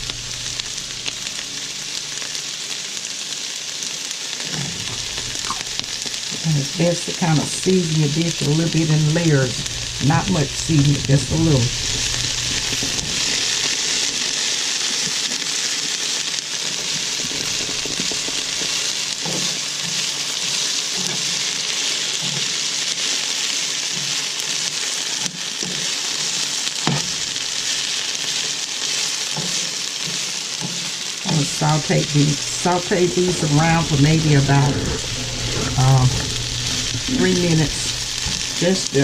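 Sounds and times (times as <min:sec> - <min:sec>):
vegetables sizzling in a pan: 0:00.0 - 0:39.0.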